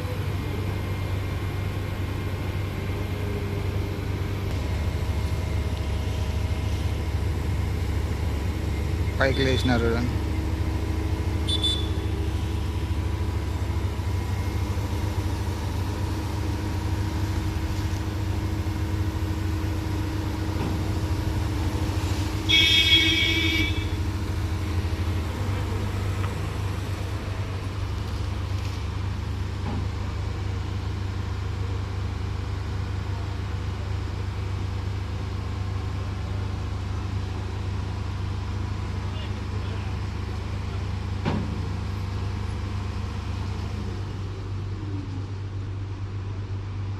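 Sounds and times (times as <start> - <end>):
heavy engine humming: 0.0 - 46.9.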